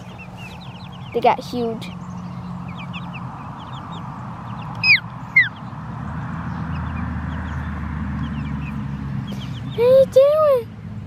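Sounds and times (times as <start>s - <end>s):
chicks peeping: 0.0s - 10.6s
steady low hum: 0.0s - 11.0s.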